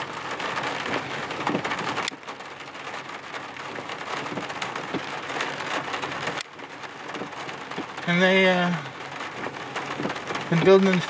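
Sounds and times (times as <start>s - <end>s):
windshield wiper sweeping: 0.0s - 8.1s, 9.0s - 11.0s
rain on car windshield and roof: 0.0s - 11.0s.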